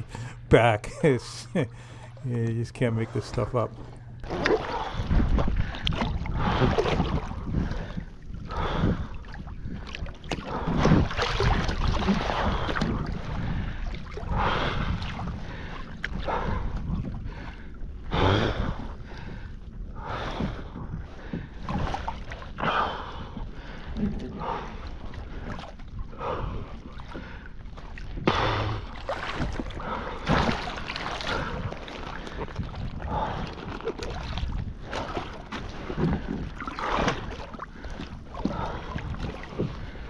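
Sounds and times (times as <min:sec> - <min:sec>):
water splashing and sloshing: 0:00.0 - 0:40.0
wind buffeting microphone: 0:04.7 - 0:27.0, 0:28.1 - 0:40.0.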